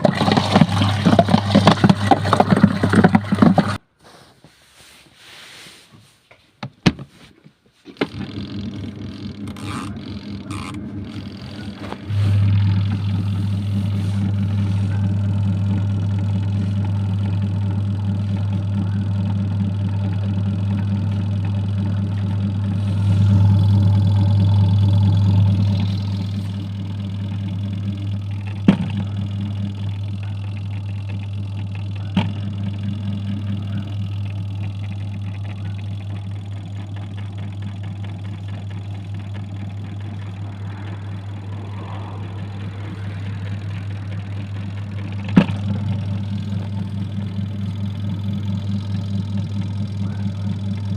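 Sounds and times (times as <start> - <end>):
washing machine motor hum: 0.0 - 3.8, 8.0 - 50.9.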